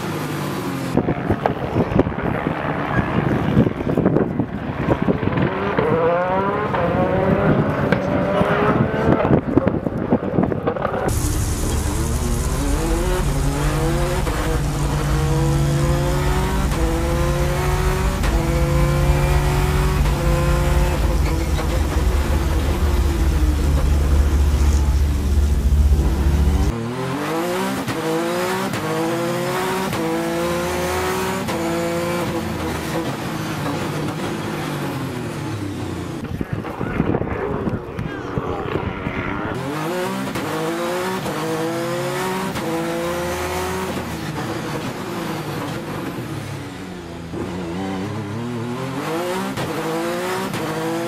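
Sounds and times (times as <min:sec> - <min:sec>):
race car engine accelerating: 0:05.3 - 0:09.4, 0:10.8 - 0:36.3, 0:38.6 - 0:51.0.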